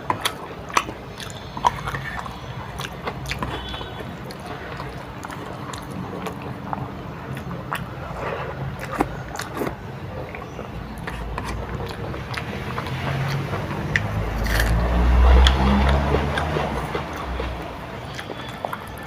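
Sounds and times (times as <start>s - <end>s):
wet mouth clicks and chewing: 0.0s - 19.0s.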